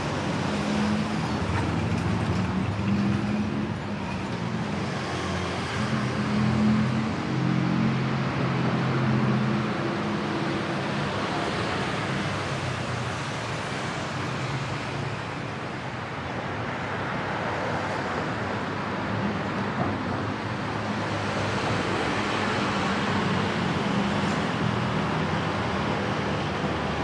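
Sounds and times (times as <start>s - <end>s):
low hum of nearby engines: 0.0s - 27.0s
traffic passing on busy road: 0.0s - 27.0s.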